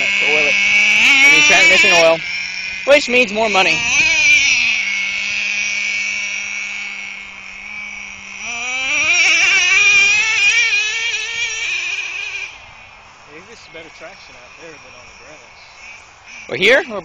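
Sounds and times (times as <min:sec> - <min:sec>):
small engine buzzing and revving: 0:00.0 - 0:17.0.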